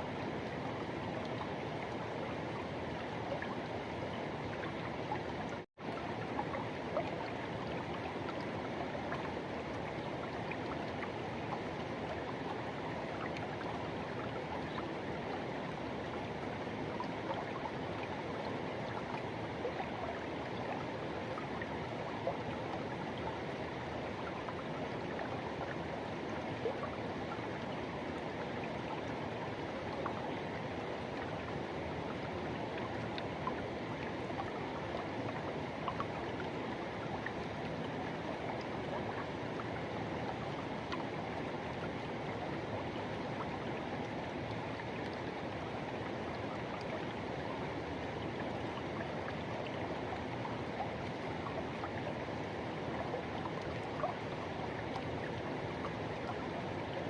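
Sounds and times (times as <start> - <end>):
river water rushing over rocks: 0.0 - 57.0
small water splashes: 0.0 - 57.0.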